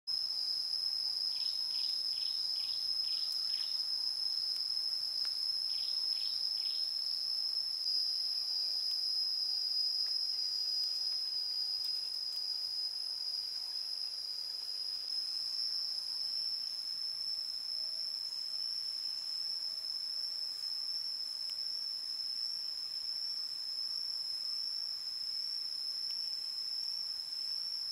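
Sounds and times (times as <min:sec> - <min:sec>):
insects chorus: 0:00.1 - 0:27.9.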